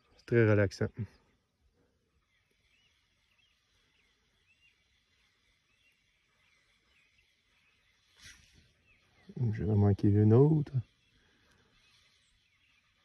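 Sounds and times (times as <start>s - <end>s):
faint bird chirps: 0.8s - 13.0s.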